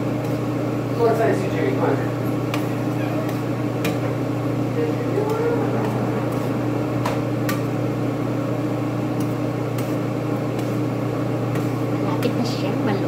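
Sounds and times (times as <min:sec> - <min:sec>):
appliance fan hum: 0:00.0 - 0:13.0.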